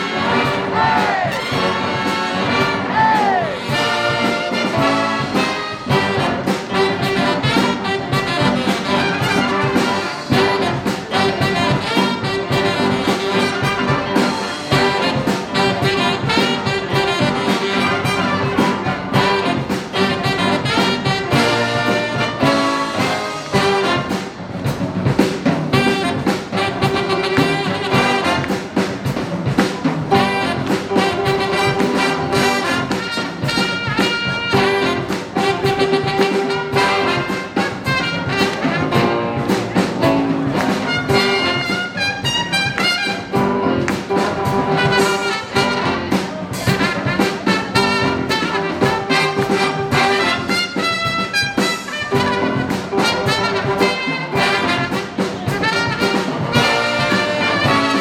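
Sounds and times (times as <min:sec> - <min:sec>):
big band playing jazz: 0:00.0 - 0:58.0.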